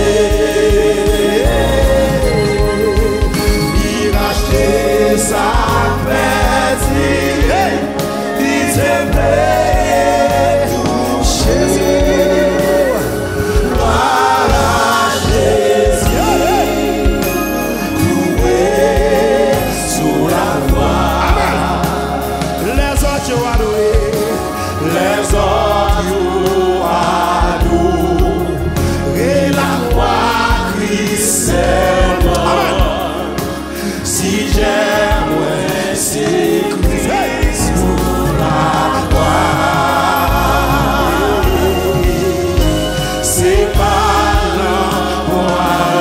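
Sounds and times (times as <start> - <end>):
backing vocalists: 0.0 - 46.0
band with low bass: 0.0 - 46.0
man singing lead: 0.0 - 46.0.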